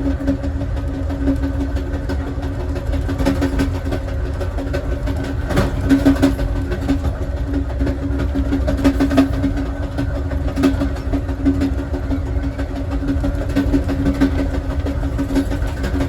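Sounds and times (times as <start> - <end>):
train clatter: 0.0 - 16.0
train rumbling on rails: 0.0 - 16.0.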